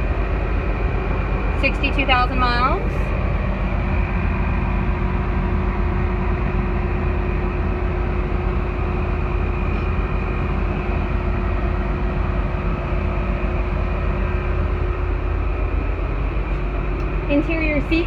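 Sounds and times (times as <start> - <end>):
diesel bus engine idling: 0.0 - 18.0.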